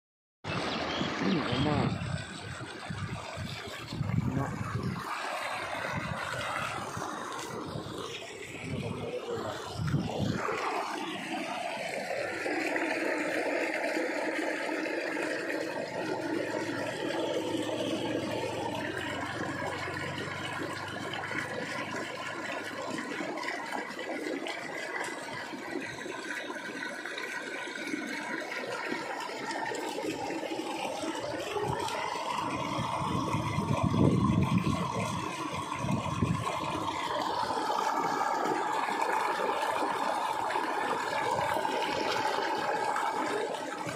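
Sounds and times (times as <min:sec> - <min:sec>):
water pouring and splashing: 0:00.5 - 0:43.9.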